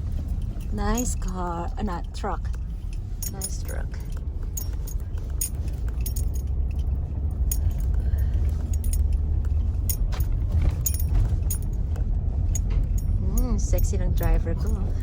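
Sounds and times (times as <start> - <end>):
light jingling clinks: 0.0 - 15.0
truck engine and road rumble: 0.0 - 15.0.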